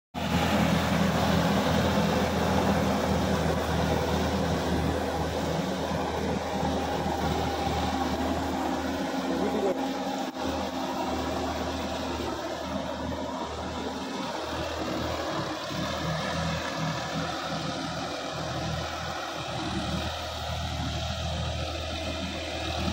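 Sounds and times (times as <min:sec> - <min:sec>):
tractor diesel engine running: 0:00.1 - 0:22.9.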